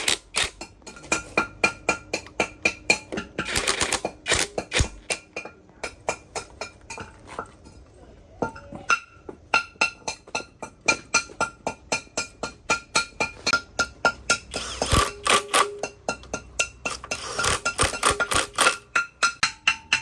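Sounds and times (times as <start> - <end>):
metal-on-metal hammer strikes: 0.0 - 7.1, 8.5 - 20.0.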